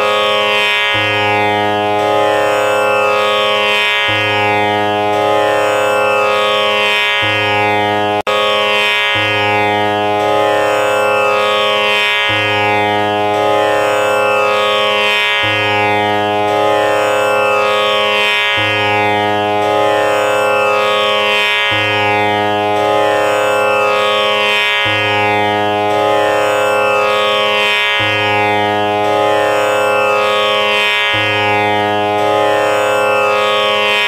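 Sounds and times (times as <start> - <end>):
droning instrumental music loop: 0.0 - 34.0.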